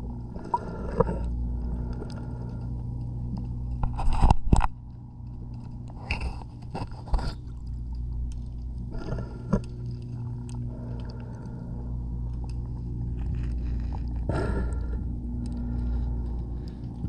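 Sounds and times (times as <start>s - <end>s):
underwater machine hum: 0.0s - 17.0s.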